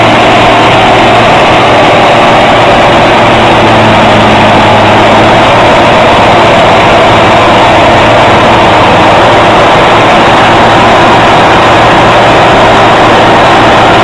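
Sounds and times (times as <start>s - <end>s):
heavy vehicle engine running: 0.0s - 14.0s.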